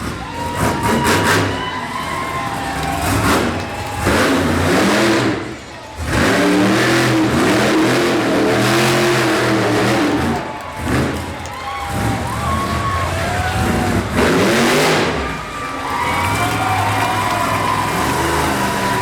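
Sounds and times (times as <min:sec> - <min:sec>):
truck engine revving hard: 0:00.0 - 0:19.0.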